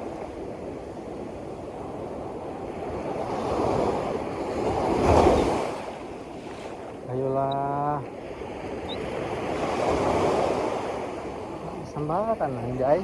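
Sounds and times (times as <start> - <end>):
surf: 0.0 - 13.0
wave washing in: 0.0 - 13.0.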